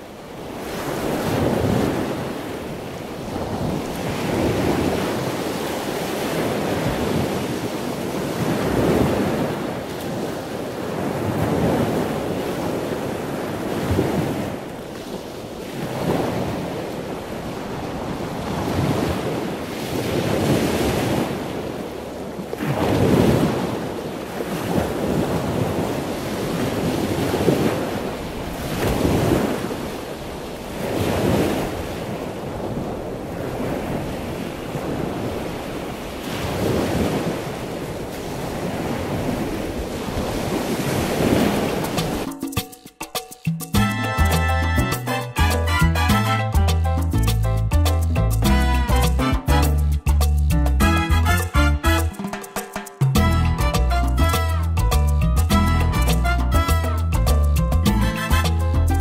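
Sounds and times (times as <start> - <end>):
rushing sea water: 0.0 - 59.0.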